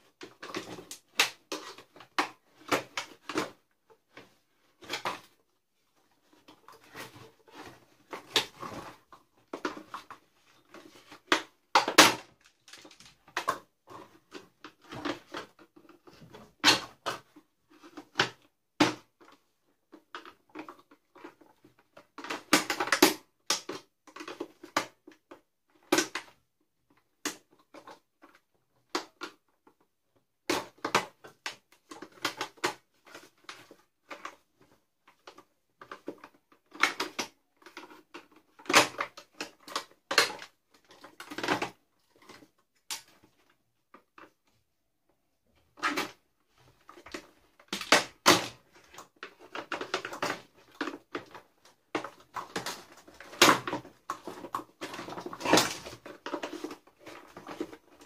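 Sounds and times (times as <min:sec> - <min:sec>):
plastic parts clicking and clattering: 0:00.0 - 0:44.6, 0:45.5 - 0:58.0.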